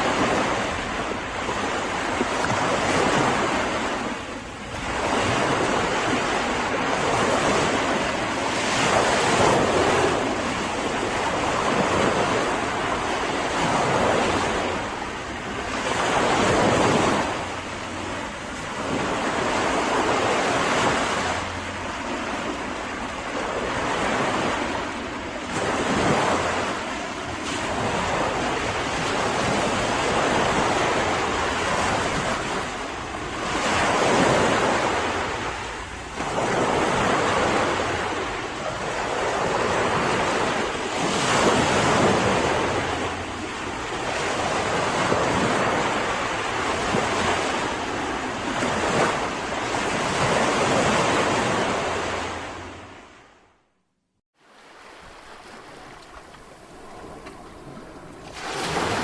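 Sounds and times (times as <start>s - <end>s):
sea waves breaking on shore: 0.0s - 53.6s, 54.4s - 59.0s.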